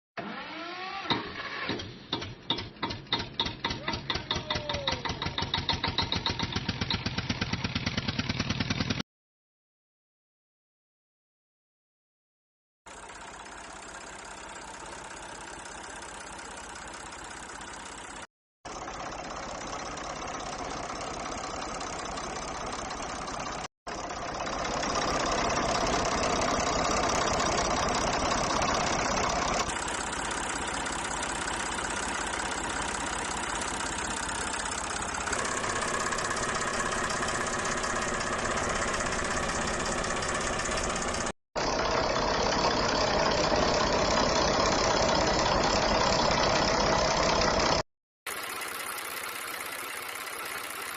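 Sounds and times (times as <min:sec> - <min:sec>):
mini tractor engines running: 0:02.5 - 0:09.0, 0:12.9 - 0:50.9.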